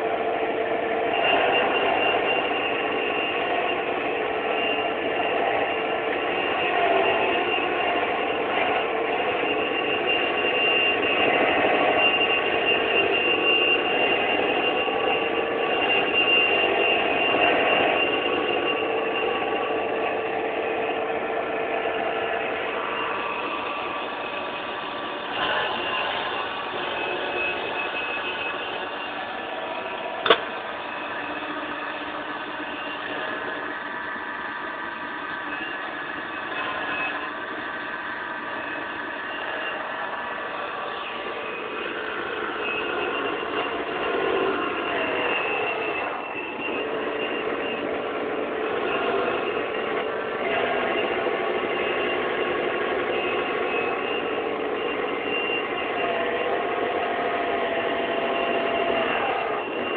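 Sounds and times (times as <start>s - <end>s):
grinding machine whirring: 0.0s - 59.9s
high squealing tones: 0.0s - 59.9s.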